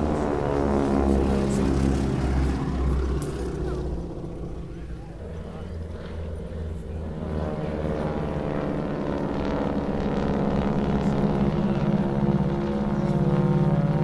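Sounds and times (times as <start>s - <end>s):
propeller aircraft droning: 0.0s - 14.0s.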